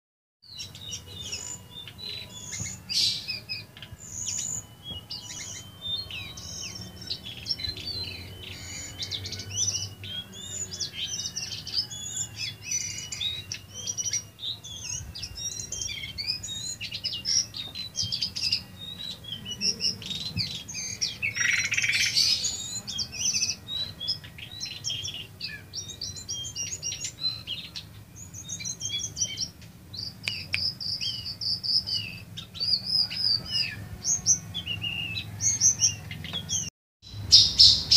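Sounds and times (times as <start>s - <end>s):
bird singing high chirps and trills: 0.4s - 37.9s.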